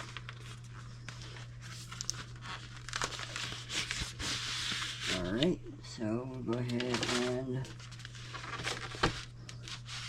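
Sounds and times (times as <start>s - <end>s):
cardboard packaging crinkling: 0.0s - 5.5s, 6.5s - 10.0s.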